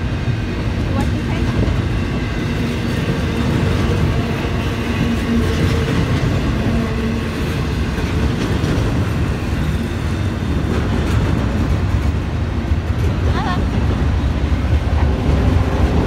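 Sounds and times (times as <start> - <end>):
freight train wheels on rail: 0.0 - 16.0.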